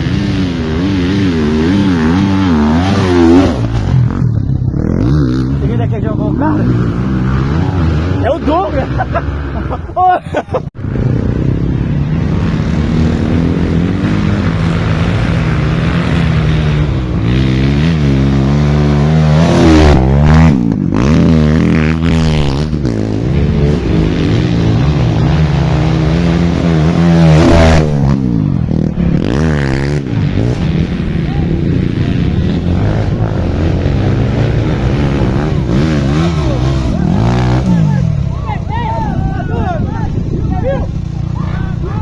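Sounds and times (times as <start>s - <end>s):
dirt bike engine revving: 0.0s - 9.9s, 10.8s - 42.0s.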